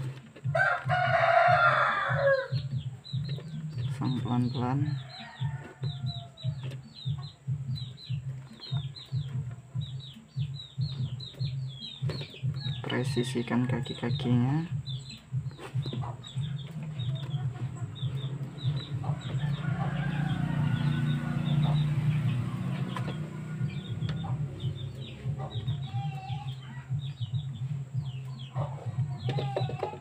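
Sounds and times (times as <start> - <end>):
poultry clucking: 0.0 - 30.0.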